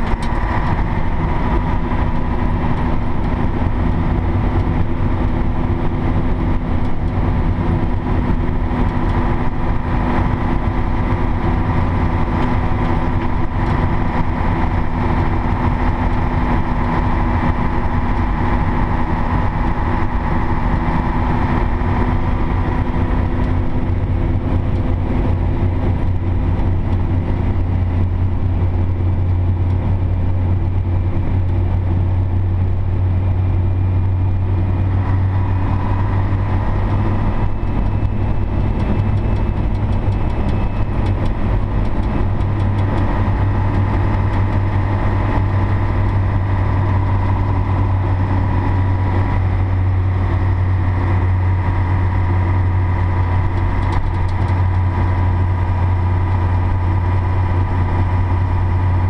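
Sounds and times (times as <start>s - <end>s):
high whine: 0.0s - 59.0s
truck diesel engine droning: 0.0s - 59.0s.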